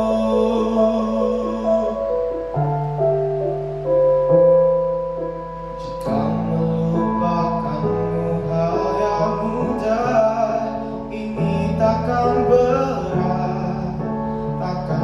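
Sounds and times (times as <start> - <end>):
slow pop ballad accompaniment: 0.0 - 15.0.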